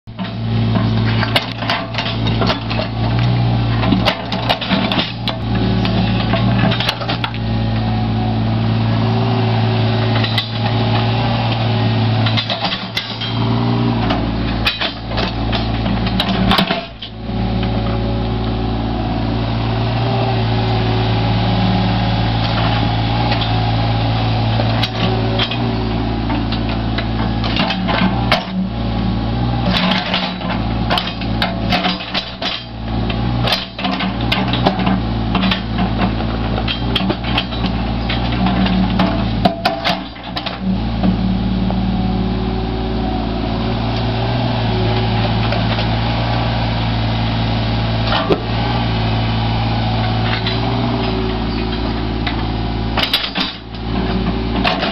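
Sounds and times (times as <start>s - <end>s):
excavator diesel engine running: 0.1s - 54.9s.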